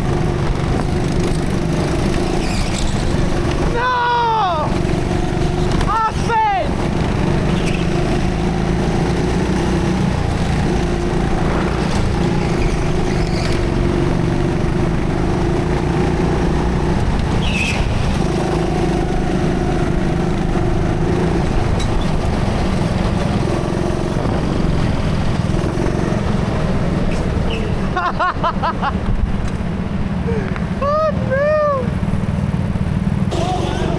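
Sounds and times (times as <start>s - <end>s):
go-kart engine drone: 0.0s - 33.9s.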